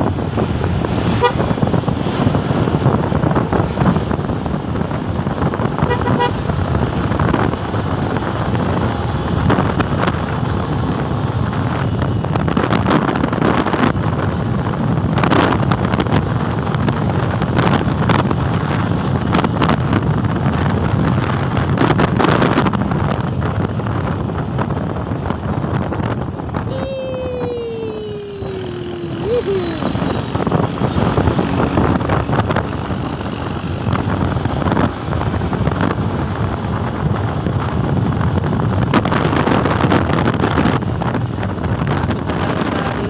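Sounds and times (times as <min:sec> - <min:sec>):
motorcycle engine running: 0:00.0 - 0:21.5, 0:22.8 - 0:26.7, 0:27.4 - 0:43.0
wind rushing over microphone: 0:00.0 - 0:43.0.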